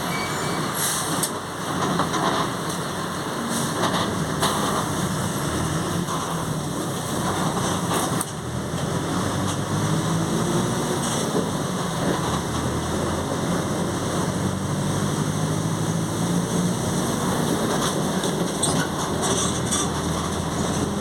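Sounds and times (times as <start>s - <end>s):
bus diesel engine drone: 0.0s - 21.0s.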